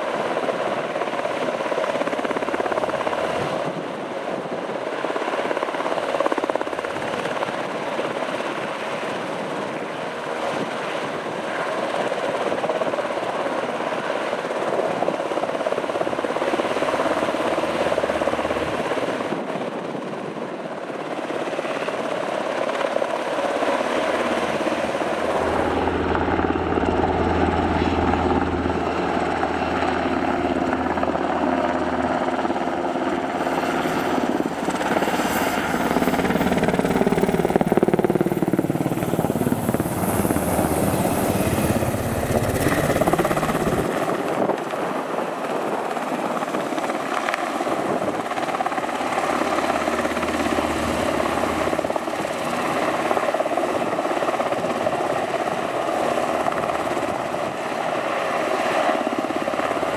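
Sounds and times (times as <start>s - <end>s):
helicopter flying overhead: 0.0s - 59.9s
helicopter hovering: 0.0s - 59.9s.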